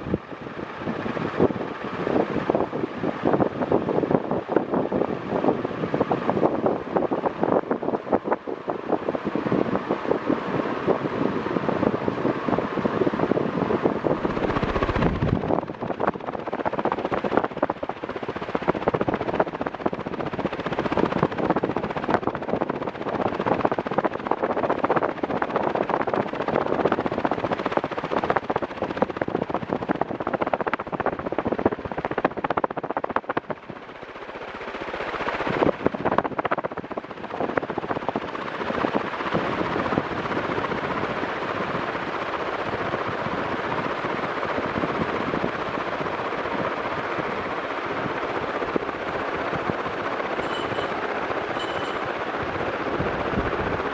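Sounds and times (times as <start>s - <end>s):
ceiling fan rushing air: 0.0s - 53.9s.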